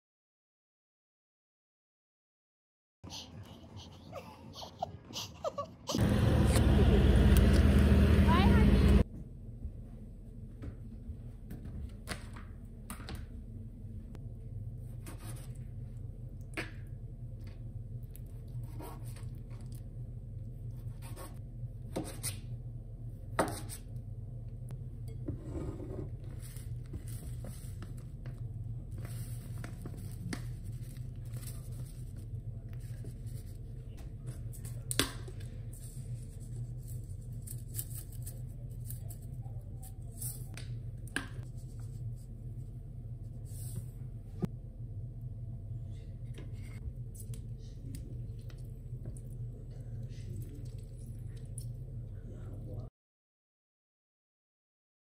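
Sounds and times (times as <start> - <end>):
steady low hum: 3.1 - 11.8, 12.4 - 52.9.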